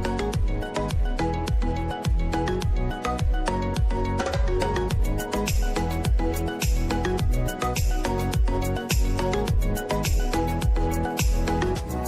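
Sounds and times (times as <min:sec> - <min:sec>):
plucked melodic notes: 0:00.0 - 0:11.5
background music with steady beat: 0:00.0 - 0:12.0.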